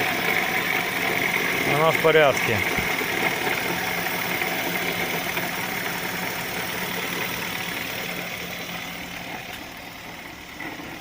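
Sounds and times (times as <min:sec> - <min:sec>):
car engine idling: 0:00.0 - 0:11.0
fan clutch rattle: 0:00.0 - 0:11.0.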